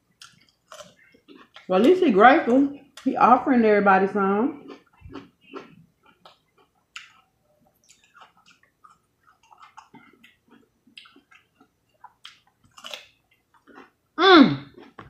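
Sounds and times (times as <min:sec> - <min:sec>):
chewing crunchy food: 0:00.0 - 0:03.1, 0:04.6 - 0:14.0, 0:14.6 - 0:15.0.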